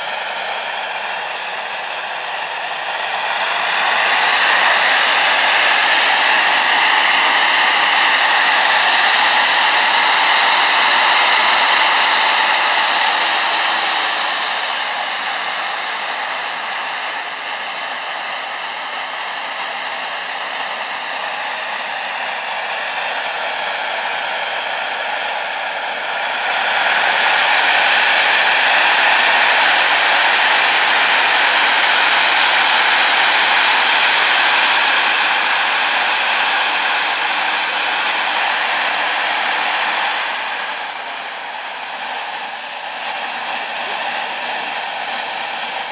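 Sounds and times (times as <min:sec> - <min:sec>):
jet engine roaring with whine: 0:00.0 - 0:45.9.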